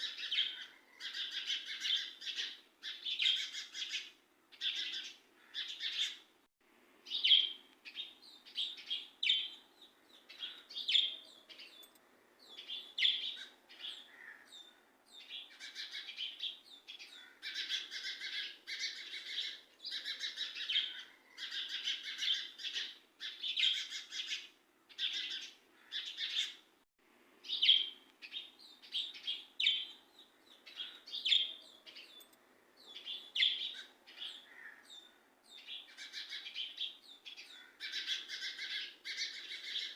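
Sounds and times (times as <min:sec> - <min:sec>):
birds chirping: 0:00.0 - 0:06.3, 0:07.0 - 0:26.7, 0:27.4 - 0:39.9.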